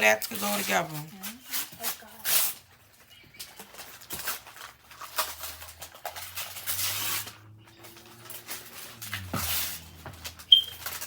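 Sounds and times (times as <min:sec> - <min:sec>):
wrapping paper rustling and tearing: 0:00.4 - 0:11.0.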